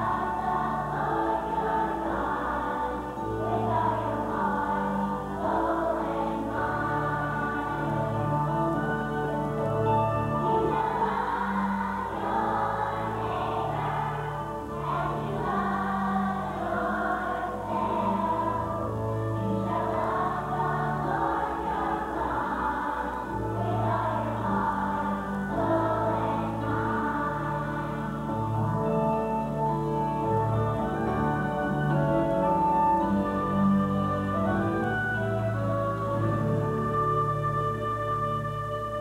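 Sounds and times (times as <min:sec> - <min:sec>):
children's choir singing: 0:00.0 - 0:39.0
instrumental accompaniment: 0:00.0 - 0:39.0.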